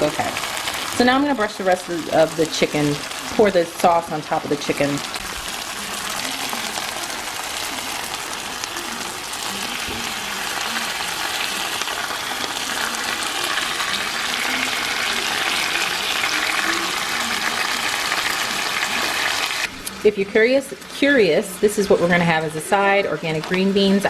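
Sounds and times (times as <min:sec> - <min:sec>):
chicken sizzling in a frying pan: 0:00.0 - 0:19.8.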